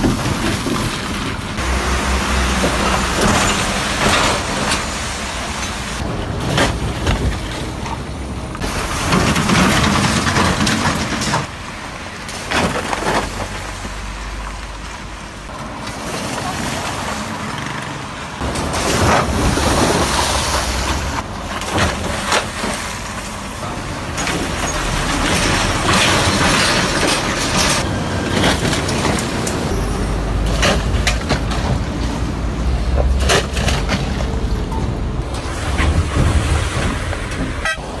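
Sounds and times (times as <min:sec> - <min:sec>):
vehicle engine and tyre rumble: 0:00.0 - 0:38.0.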